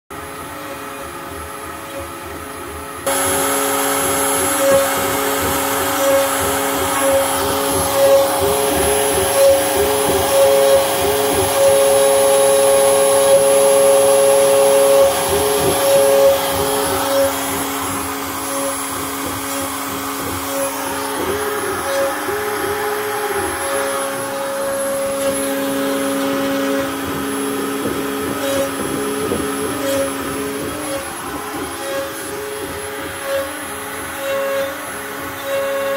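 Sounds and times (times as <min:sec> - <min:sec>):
router spindle motor whining: 0:00.2 - 0:35.9
motor tones rising and falling: 0:03.0 - 0:35.9.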